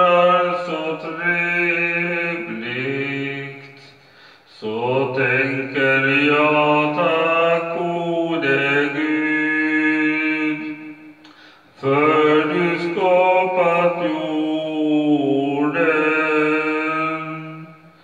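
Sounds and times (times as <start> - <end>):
man singing into a microphone: 0.0 - 11.2, 11.8 - 17.9.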